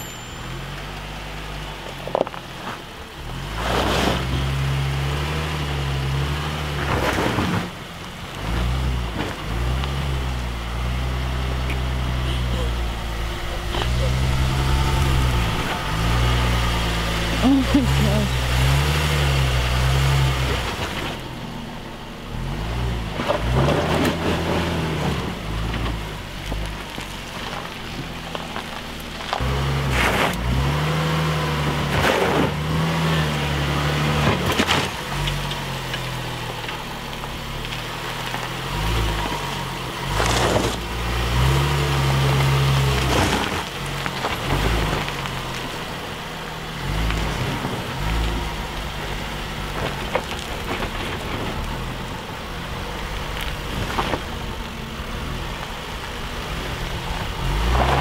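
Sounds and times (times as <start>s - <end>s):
car engine revving: 0.0s - 58.0s
tyres crunching on stones: 6.1s - 21.6s, 22.3s - 30.8s, 33.8s - 58.0s.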